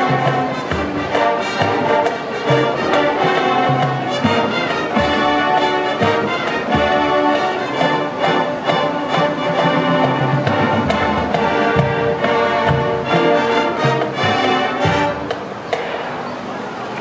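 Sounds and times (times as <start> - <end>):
brass chords: 0.0 - 16.2.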